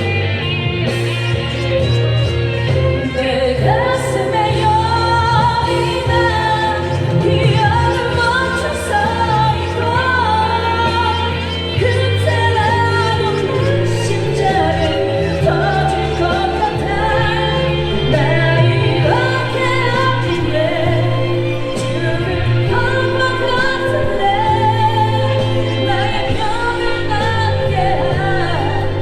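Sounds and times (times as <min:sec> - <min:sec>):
backing track with bass line: 0:00.0 - 0:29.0
woman singing a pop ballad: 0:01.8 - 0:29.0.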